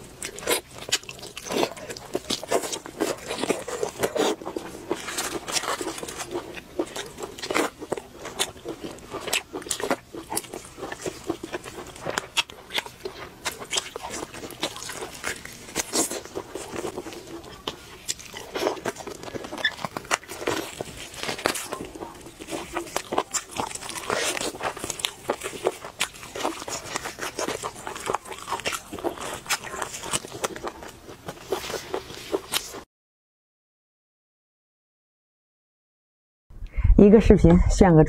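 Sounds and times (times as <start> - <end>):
person chewing with crunches: 0.0 - 32.8.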